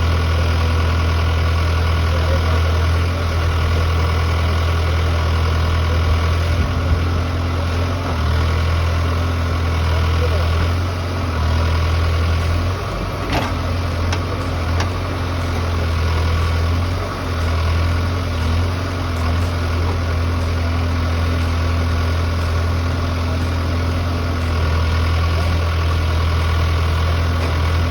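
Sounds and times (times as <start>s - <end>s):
excavator engine running: 0.0s - 27.9s.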